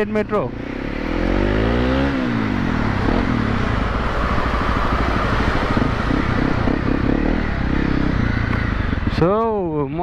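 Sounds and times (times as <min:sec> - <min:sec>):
dirt bike engine running: 0:00.0 - 0:09.4.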